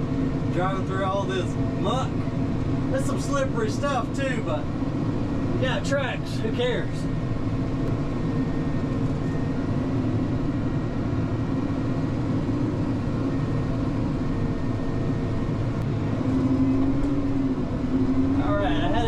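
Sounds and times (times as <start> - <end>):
diesel engine running under load: 0.0 - 19.0.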